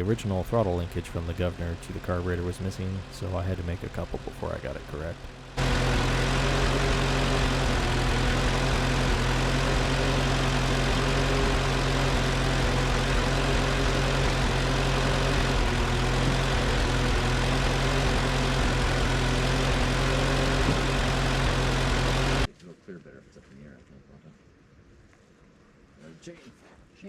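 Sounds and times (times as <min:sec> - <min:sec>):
tractor engine running: 0:00.0 - 0:22.5.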